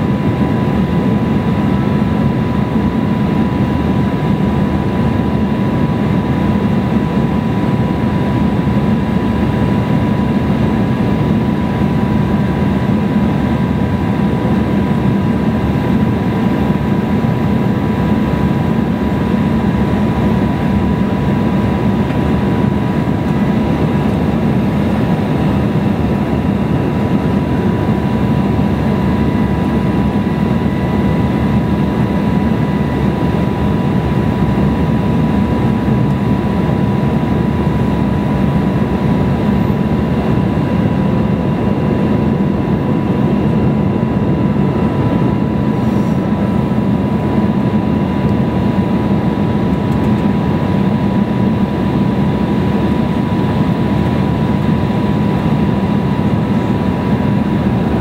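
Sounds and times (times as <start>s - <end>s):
airflow over fuselage: 0.0s - 58.0s
jet engine drone in cabin: 0.0s - 58.0s
thin steady whine: 0.0s - 58.0s.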